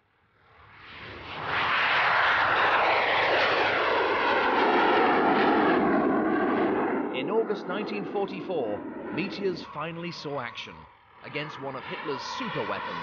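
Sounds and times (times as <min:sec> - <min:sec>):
jet engines roaring: 0:00.6 - 0:13.0.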